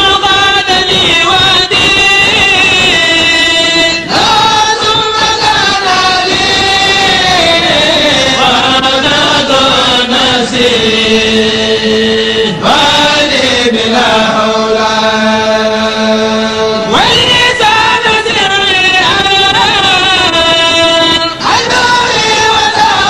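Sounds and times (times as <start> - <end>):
voices chanting devotional verses: 0.0 - 23.0.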